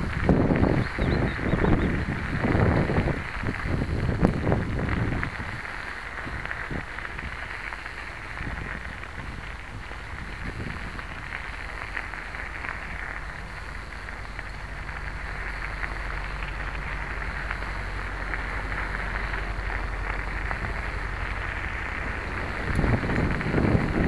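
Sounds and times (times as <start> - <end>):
bicycle tyres rolling on gravel: 0.0 - 24.0.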